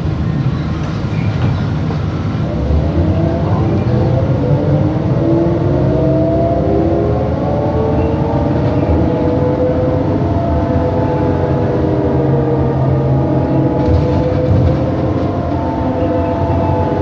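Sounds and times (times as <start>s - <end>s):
road noise rumble: 0.0s - 17.0s.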